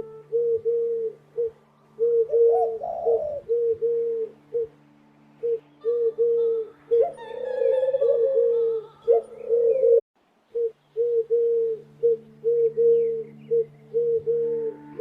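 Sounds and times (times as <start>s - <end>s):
doves cooing: 0.0s - 4.8s, 5.4s - 15.0s
small birds chirping: 0.3s - 15.0s.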